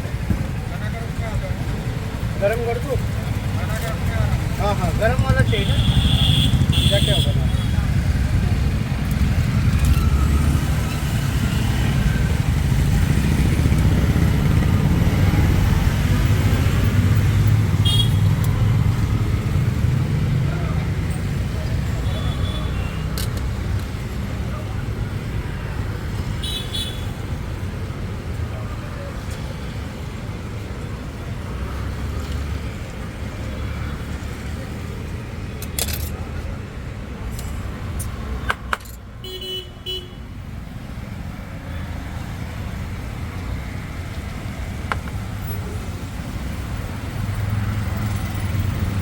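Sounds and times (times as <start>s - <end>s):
street traffic rumble: 0.0s - 49.0s.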